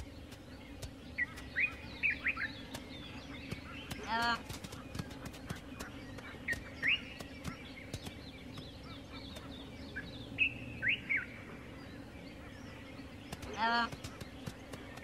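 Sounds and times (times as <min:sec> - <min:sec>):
birds chirping: 0:00.0 - 0:15.0
low steady hum: 0:00.0 - 0:15.0.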